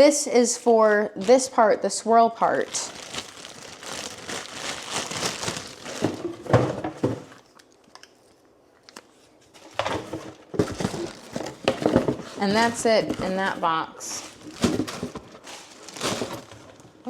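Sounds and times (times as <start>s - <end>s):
packaging crinkling and rustling: 2.4s - 8.2s, 8.9s - 17.0s.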